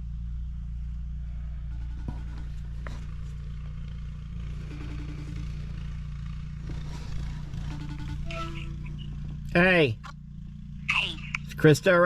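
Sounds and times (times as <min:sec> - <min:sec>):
vehicle low hum: 0:00.0 - 0:12.0.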